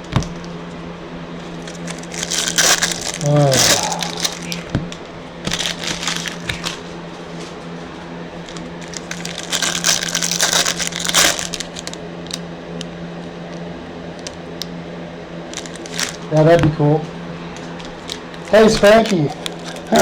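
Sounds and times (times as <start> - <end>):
foil wrappers crinkling and tearing: 1.4 - 14.5, 15.4 - 16.5, 17.5 - 20.0.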